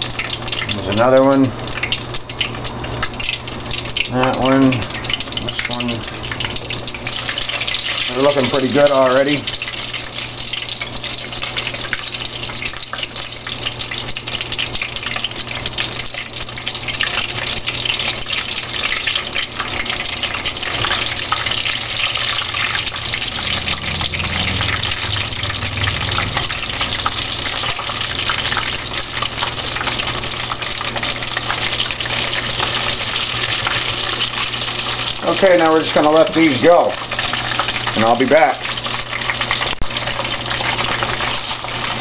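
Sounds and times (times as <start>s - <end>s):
shrimp deep frying in oil: 0.0s - 42.0s.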